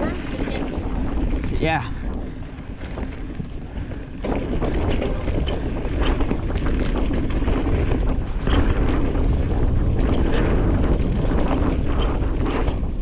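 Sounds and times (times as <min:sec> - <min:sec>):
bicycle tyre noise: 0:00.0 - 0:13.0
bike knocks and rattles: 0:00.0 - 0:13.0
wind rushing over microphone: 0:00.0 - 0:13.0.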